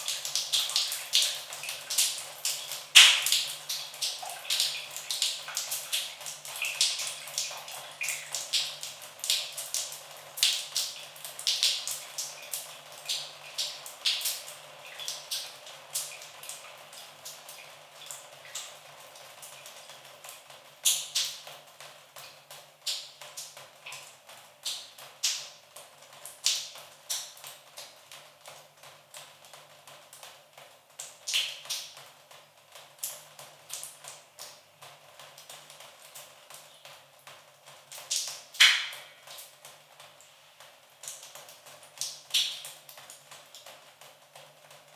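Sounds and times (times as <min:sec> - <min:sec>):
water dripping: 0:00.0 - 0:29.2, 0:35.3 - 0:43.8.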